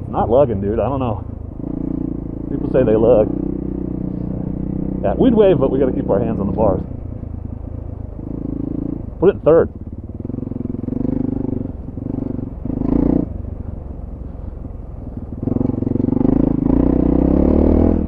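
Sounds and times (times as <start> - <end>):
motorcycle engine lugging at low revs: 0.0 - 18.0.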